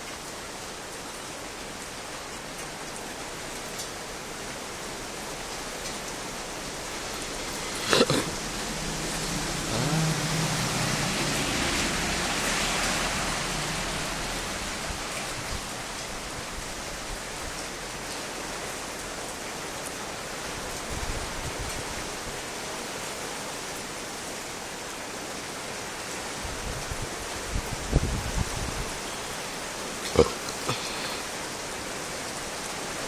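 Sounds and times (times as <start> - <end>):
heavy rain pattering: 0.0 - 33.0.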